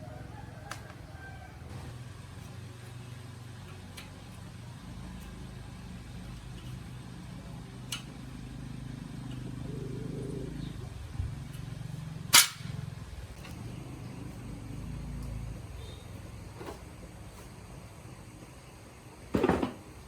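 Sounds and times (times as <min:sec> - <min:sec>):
small motorbike engine running: 0:00.0 - 0:17.6.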